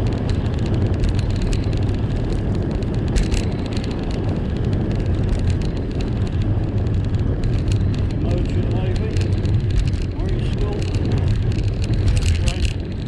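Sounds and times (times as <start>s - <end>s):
small clicks and rattles: 0.0s - 13.0s
wind buffeting microphone: 0.0s - 13.0s.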